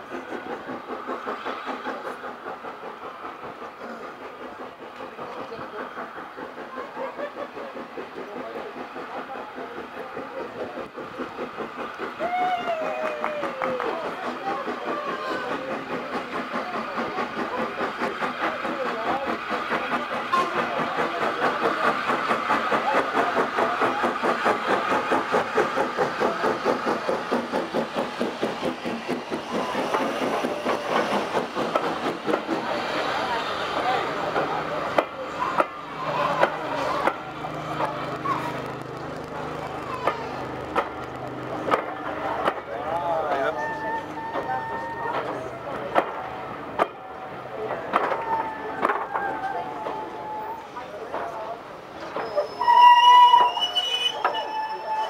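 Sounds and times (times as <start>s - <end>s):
steam train passing: 0.0s - 55.0s.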